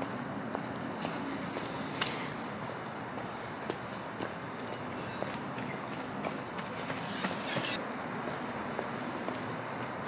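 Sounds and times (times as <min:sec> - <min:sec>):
city background noise: 0:00.0 - 0:10.0
faint footsteps: 0:00.0 - 0:10.0.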